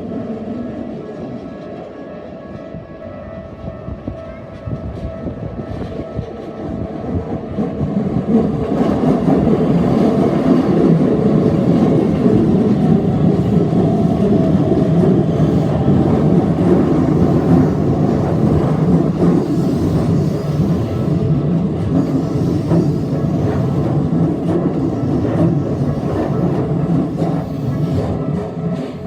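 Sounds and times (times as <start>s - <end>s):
electric train passing slowly: 0.0s - 29.0s
train wheels on rails: 0.0s - 29.0s.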